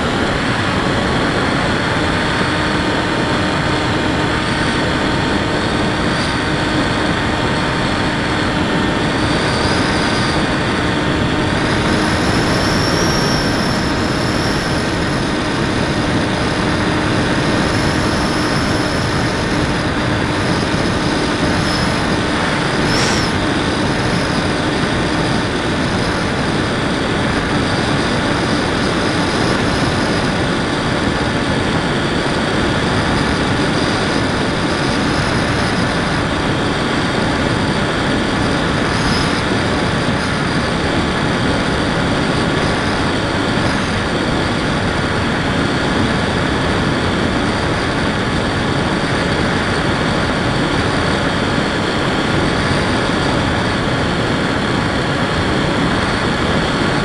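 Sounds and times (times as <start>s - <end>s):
motor and propeller whining: 0.0s - 57.0s
rushing airflow: 0.0s - 57.0s.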